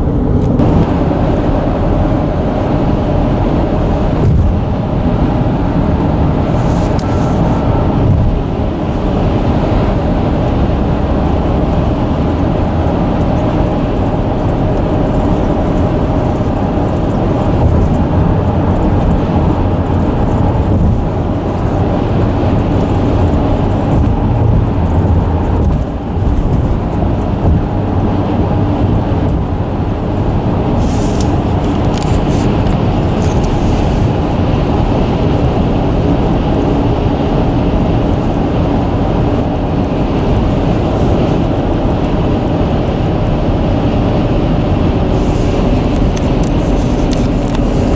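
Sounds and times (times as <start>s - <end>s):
bridge rumbling under traffic: 0.0s - 47.9s.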